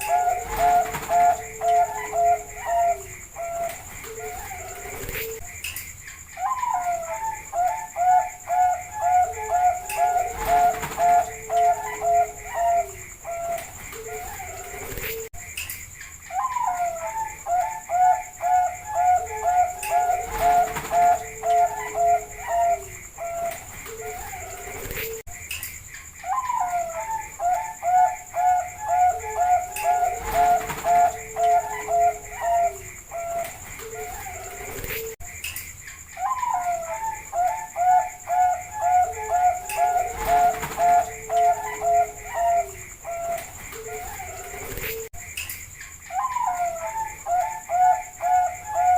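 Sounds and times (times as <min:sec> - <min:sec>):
dove cooing: 0:00.0 - 0:05.5, 0:06.4 - 0:15.3, 0:16.3 - 0:25.2, 0:26.2 - 0:35.2, 0:36.2 - 0:45.1, 0:46.1 - 0:48.9.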